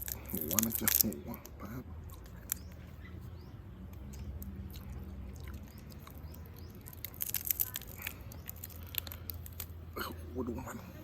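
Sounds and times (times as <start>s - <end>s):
shell crackling: 0.0s - 3.0s, 3.9s - 10.2s
chewing crunchy food: 0.0s - 3.1s, 3.9s - 10.2s.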